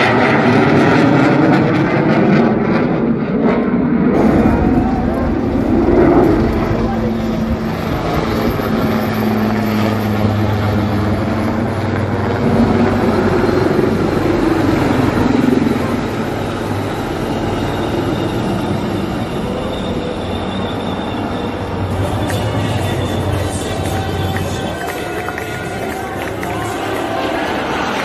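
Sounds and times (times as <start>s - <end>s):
helicopters flying over: 0.0s - 28.0s.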